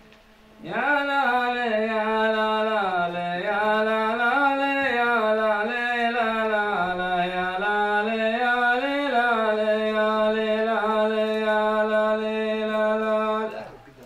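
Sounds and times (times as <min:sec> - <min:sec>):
man singing unaccompanied chant: 0:00.6 - 0:14.0.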